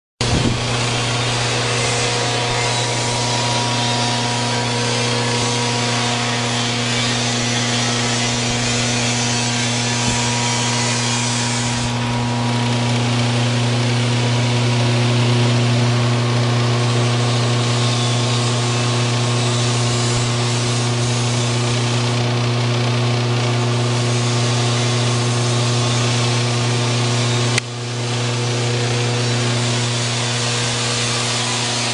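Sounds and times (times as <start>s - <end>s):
grinder running with whirring hiss: 0.2s - 31.9s.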